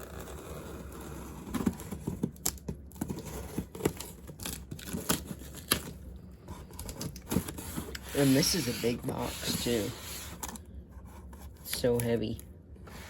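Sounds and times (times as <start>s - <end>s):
cardboard box handled and opened: 0.2s - 12.0s.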